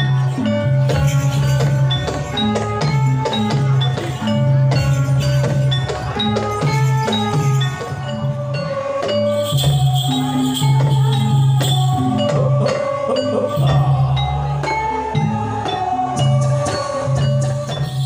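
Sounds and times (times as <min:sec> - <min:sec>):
percussion: 0:00.0 - 0:18.0.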